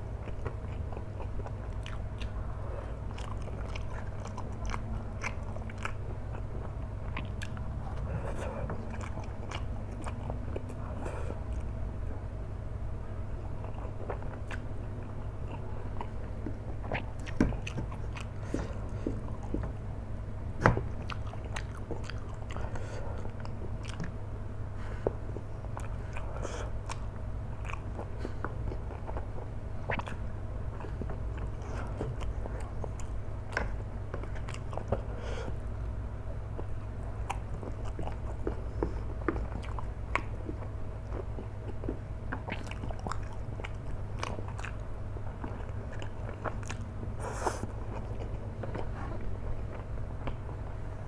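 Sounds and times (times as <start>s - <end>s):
chewing noodles with mouth clicks: 0.0s - 12.4s, 13.4s - 51.0s.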